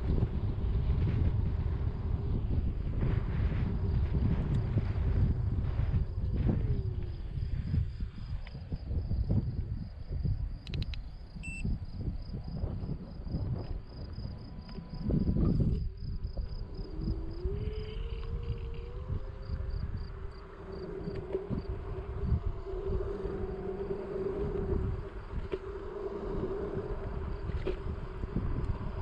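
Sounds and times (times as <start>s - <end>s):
electric scooter motor whining: 0.0s - 29.0s
wind buffeting microphone: 0.0s - 29.0s
insects chirping: 1.6s - 29.0s.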